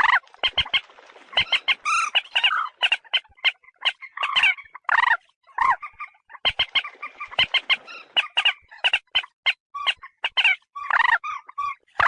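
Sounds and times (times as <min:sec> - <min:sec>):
moorhen clucking: 0:00.0 - 0:11.8.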